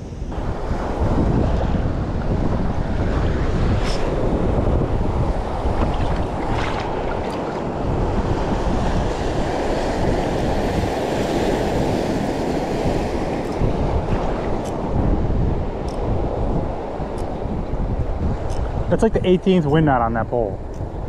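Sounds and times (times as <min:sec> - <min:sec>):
rough sea waves: 0:00.0 - 0:21.0
wind buffeting microphone: 0:00.0 - 0:21.0.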